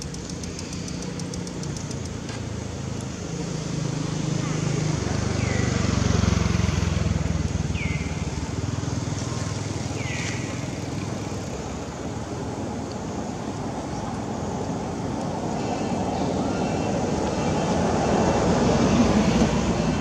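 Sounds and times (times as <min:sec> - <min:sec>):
motor vehicle engine hum: 0:00.0 - 0:20.0
outdoor background noise: 0:00.0 - 0:20.0.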